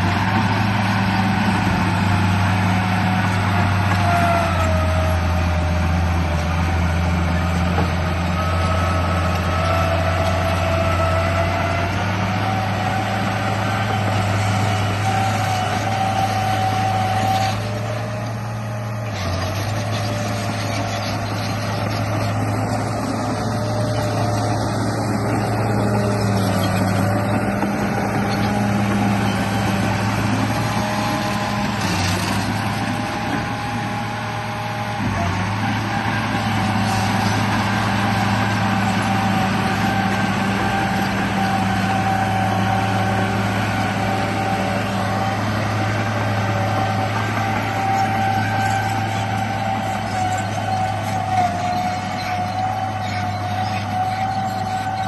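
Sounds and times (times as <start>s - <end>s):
electric motor hum and whine: 0.0s - 55.0s.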